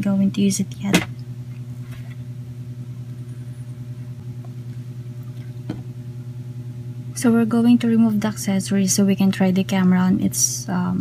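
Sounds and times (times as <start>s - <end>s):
motor humming with pulsing: 0.0s - 11.0s.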